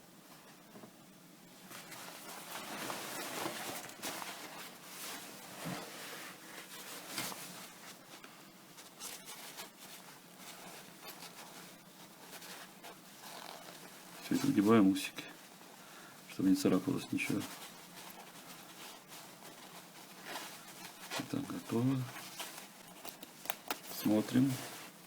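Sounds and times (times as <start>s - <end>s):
fabric rustling: 1.5s - 25.0s.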